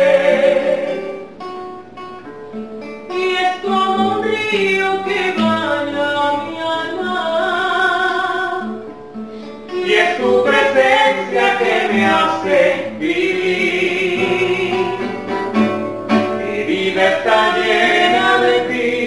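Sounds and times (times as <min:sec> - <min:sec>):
instrumental backing: 0:00.0 - 0:19.0.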